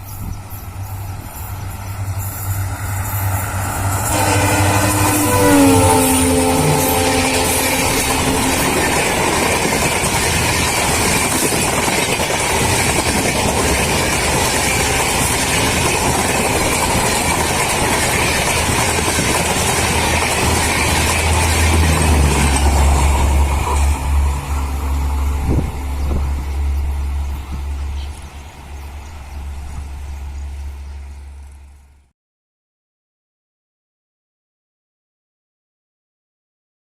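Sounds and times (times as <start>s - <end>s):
train rushing past: 0.0s - 32.1s
low rumble: 0.3s - 32.1s.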